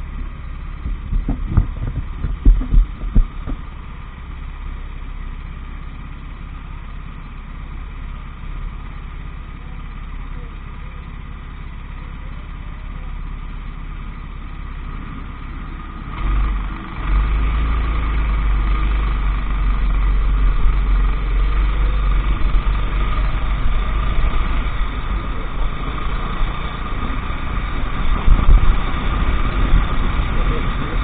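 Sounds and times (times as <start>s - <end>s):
go-kart engine: 0.0s - 31.0s.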